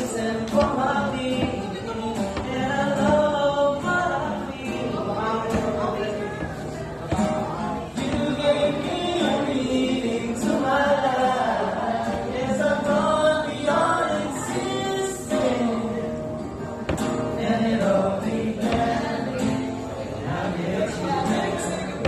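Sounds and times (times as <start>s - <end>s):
instrumental backing: 0.0s - 22.0s
voices singing a love song: 0.0s - 22.0s.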